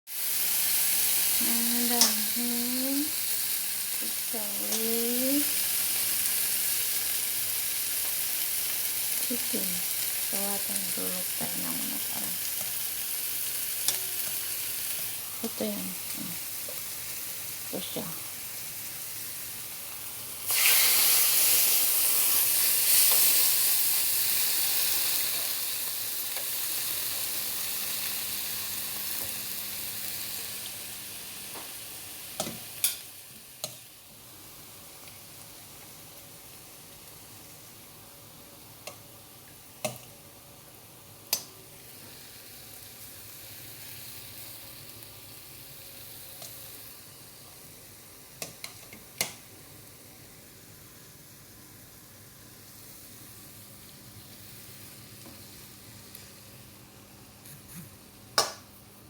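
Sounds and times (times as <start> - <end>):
meat sizzling in hot oil: 0.1 - 57.4.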